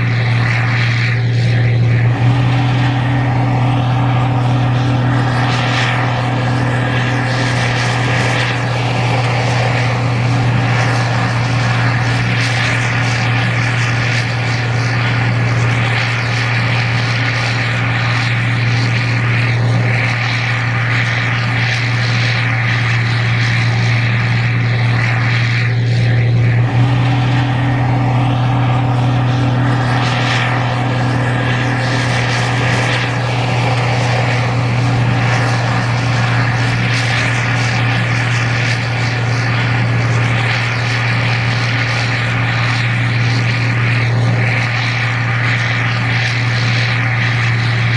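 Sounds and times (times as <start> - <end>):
combine harvester engine drone: 0.0 - 47.9
higher machine hum: 0.0 - 47.9.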